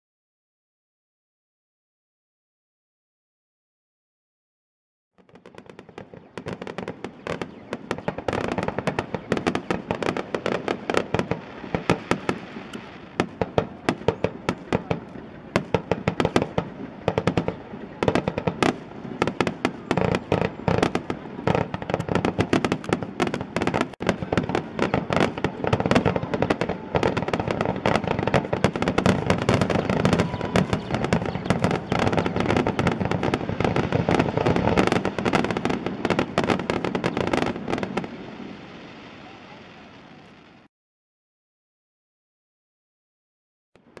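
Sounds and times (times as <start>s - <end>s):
fireworks bangs and crackling: 5.2s - 40.7s.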